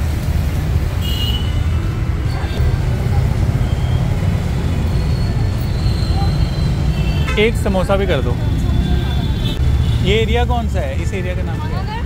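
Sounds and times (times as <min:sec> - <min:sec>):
busy street traffic rumble: 0:00.0 - 0:12.0.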